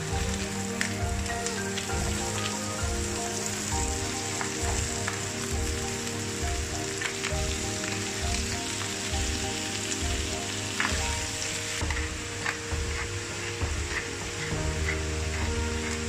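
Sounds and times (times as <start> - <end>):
background music with steady beat: 0.0 - 16.0
vegetables sizzling in frying pan: 0.0 - 16.0.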